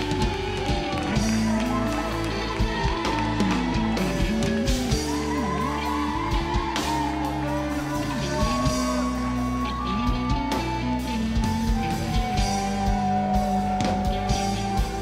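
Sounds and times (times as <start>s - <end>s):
bass and guitar: 0.0s - 15.0s
drum kit beat: 0.0s - 15.0s.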